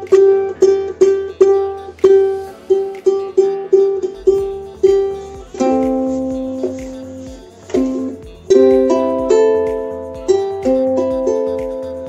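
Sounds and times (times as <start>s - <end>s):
ukulele string plucked: 0.0s - 12.0s.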